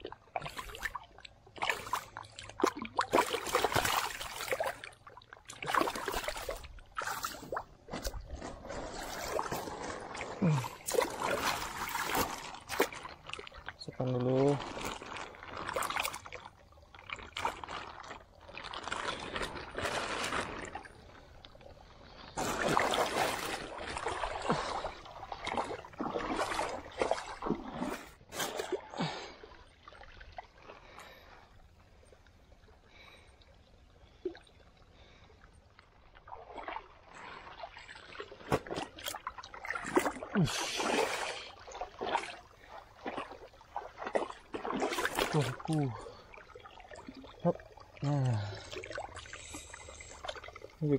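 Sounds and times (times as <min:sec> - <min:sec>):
pond water splashing: 0:00.0 - 0:50.9.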